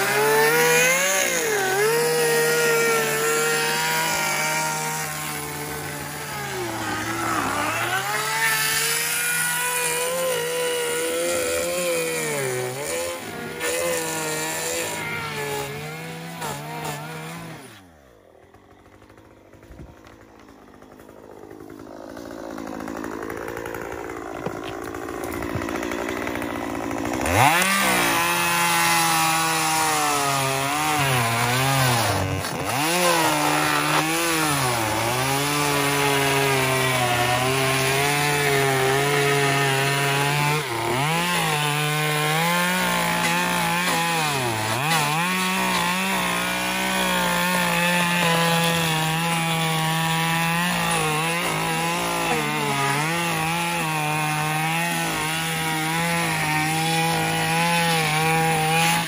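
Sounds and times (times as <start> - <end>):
chainsaw revving and cutting wood: 0.0 - 59.0.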